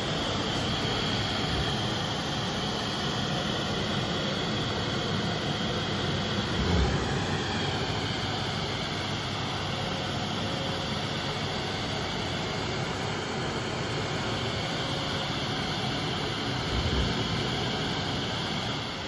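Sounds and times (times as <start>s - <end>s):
cnc router cutting: 0.0s - 19.0s.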